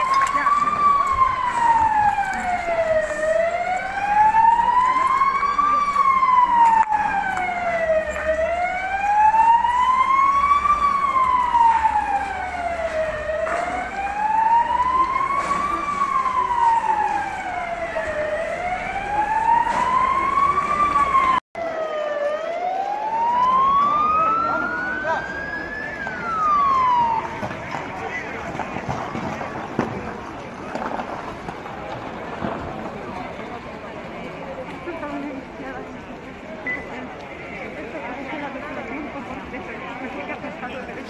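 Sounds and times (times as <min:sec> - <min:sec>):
emergency vehicle siren wailing: 0:00.0 - 0:35.6.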